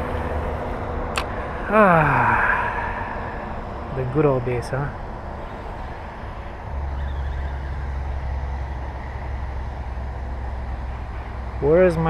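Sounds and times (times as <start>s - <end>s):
highway traffic roar: 0.0s - 12.0s.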